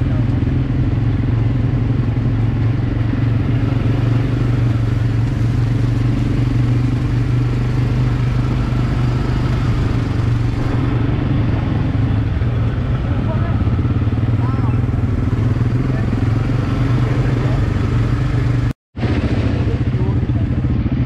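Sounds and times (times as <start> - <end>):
quad bike engines running: 0.0 - 21.0.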